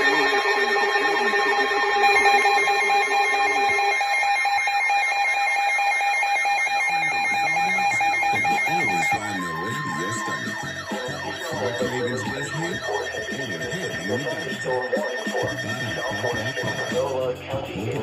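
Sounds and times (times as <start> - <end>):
electronic alarm beeping: 0.0 - 18.0
warbling alert tones: 0.0 - 18.0.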